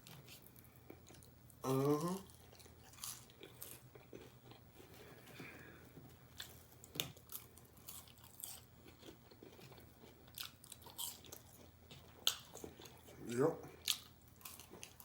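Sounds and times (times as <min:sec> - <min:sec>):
chewing crunchy fried food: 0:00.0 - 0:15.0.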